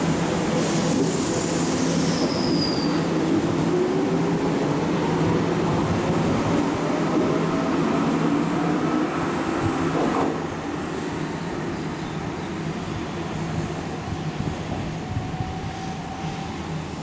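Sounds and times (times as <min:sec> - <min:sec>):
electric train rumble and hum: 0:00.0 - 0:17.0.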